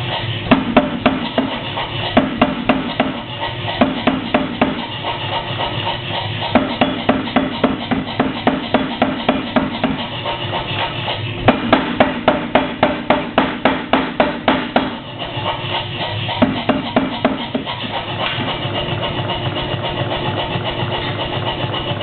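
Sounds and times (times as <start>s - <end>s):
machine hum: 0.0s - 22.0s
power hammer pounding steel: 0.0s - 22.0s.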